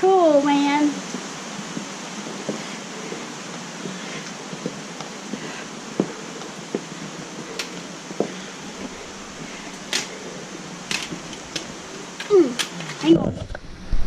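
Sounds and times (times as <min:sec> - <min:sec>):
steady rushing noise: 0:00.0 - 0:14.0
footsteps on rocky trail: 0:00.2 - 0:13.0.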